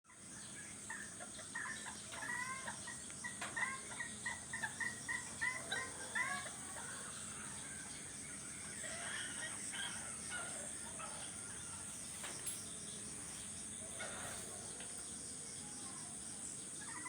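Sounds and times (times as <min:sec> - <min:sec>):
bird chirping: 0:00.1 - 0:17.0.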